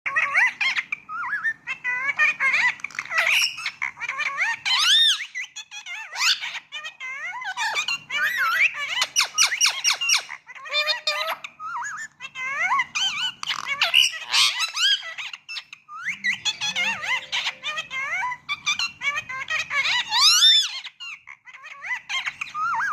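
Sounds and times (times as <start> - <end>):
parakeet chattering and squawking: 0.1 - 22.9.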